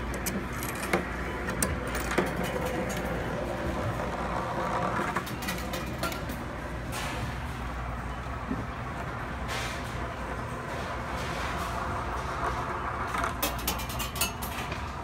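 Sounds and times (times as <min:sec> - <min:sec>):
store background hum: 0:00.0 - 0:15.0.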